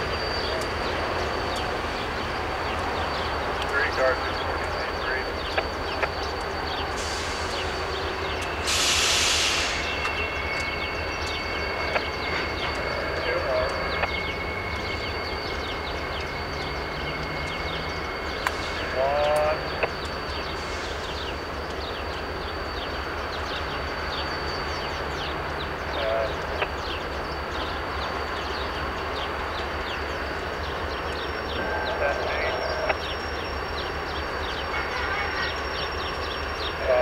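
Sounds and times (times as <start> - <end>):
birds chirping: 0.0 - 37.0
distant freight train rumble: 0.0 - 37.0
thin steady high tone: 0.0 - 37.0.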